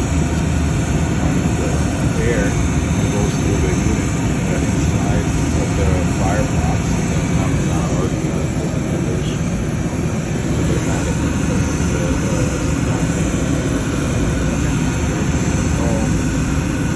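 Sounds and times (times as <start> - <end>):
oven fans and burners droning: 0.0 - 16.9.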